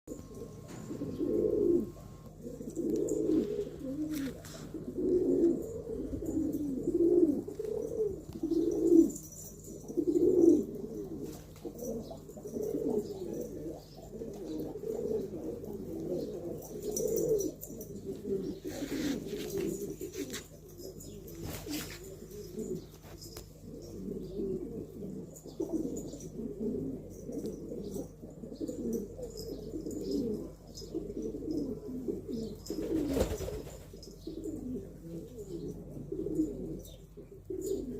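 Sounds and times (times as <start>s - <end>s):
pigeons cooing: 0.1s - 37.9s.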